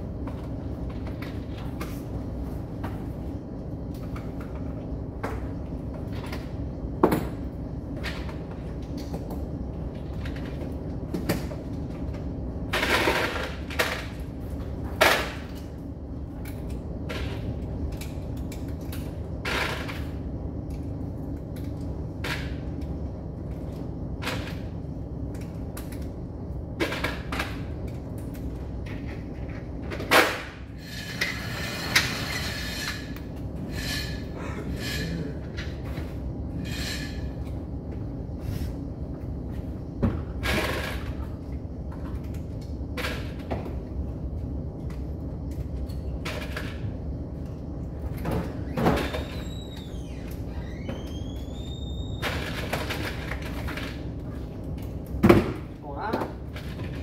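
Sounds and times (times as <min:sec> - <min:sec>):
steady low rumble: 0:00.0 - 0:48.2.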